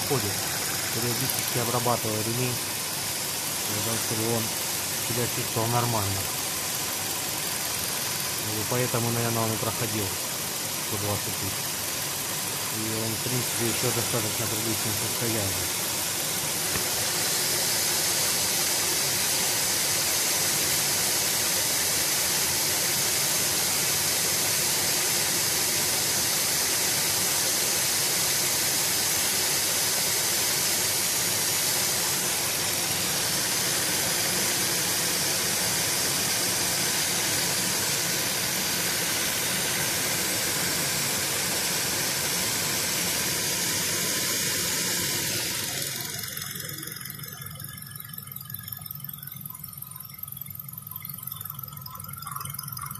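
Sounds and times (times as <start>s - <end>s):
drive belt rustling hiss: 0.0s - 47.2s
diesel engine idling: 0.0s - 47.6s.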